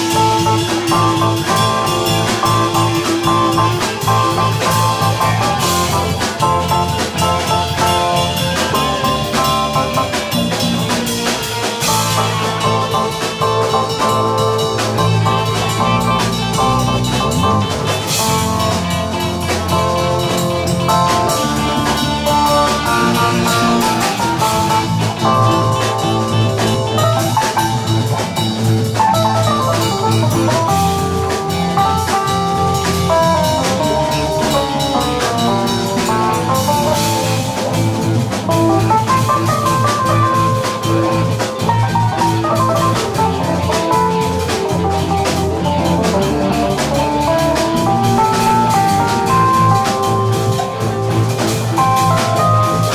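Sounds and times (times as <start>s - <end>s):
busy drum kit: 0.0s - 52.9s
fast bright melodic lines: 0.0s - 52.9s
low bass line: 0.0s - 52.9s.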